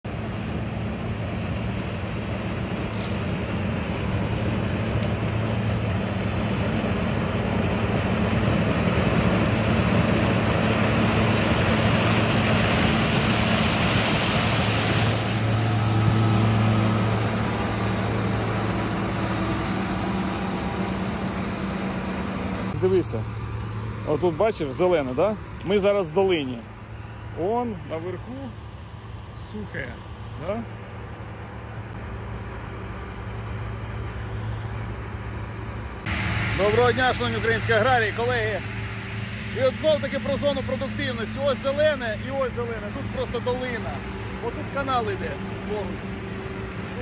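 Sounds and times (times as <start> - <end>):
combine harvester engine hum: 0.0 - 47.0
harvester working through crop: 0.0 - 47.0.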